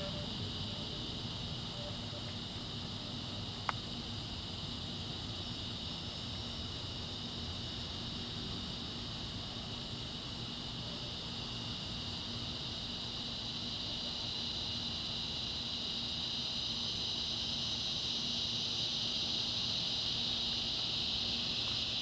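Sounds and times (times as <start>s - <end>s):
insect chorus drone: 0.0s - 22.0s.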